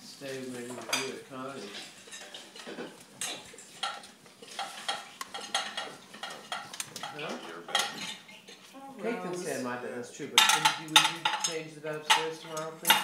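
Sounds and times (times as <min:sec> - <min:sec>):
plates and cutlery clinking: 0:00.3 - 0:08.7, 0:10.3 - 0:13.0.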